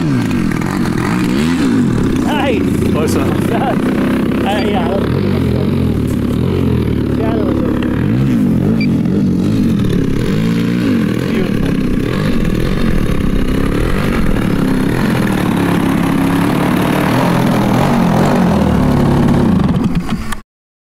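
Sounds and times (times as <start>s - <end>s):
model airplane engine revving: 0.0s - 20.4s.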